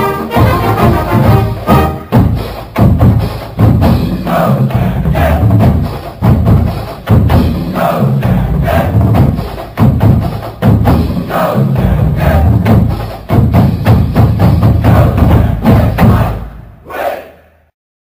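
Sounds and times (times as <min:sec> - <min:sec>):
heavy drums: 0:00.0 - 0:17.2
marching band fight song: 0:00.0 - 0:17.6.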